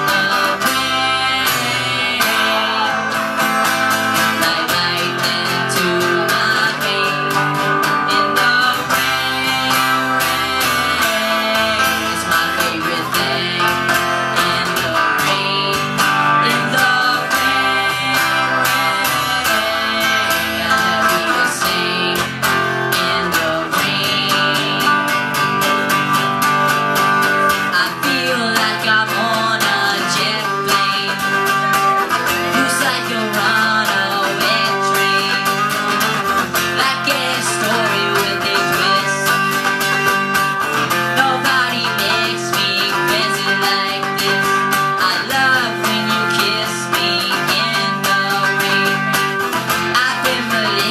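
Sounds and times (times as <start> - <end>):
acoustic guitars strumming chords: 0.0 - 50.9.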